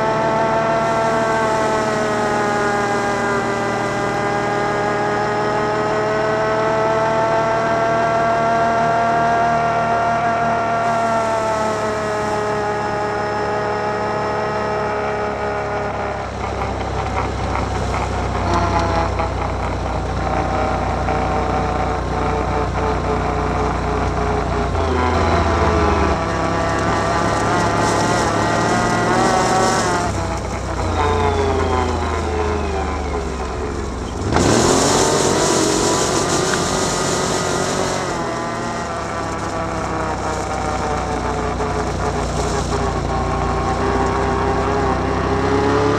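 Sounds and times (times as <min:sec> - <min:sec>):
engine revving: 0:00.0 - 0:45.9.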